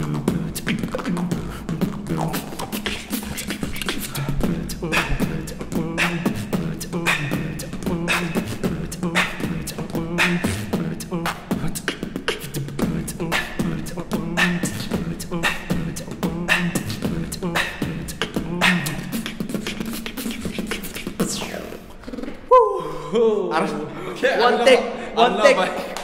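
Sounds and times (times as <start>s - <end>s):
people beatboxing: 0.0s - 23.1s, 24.7s - 26.0s.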